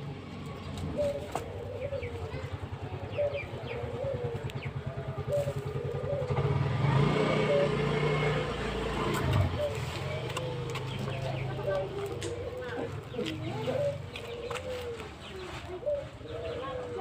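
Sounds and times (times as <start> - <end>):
small engine running: 0.0 - 14.8
pigeons cooing: 0.0 - 17.0.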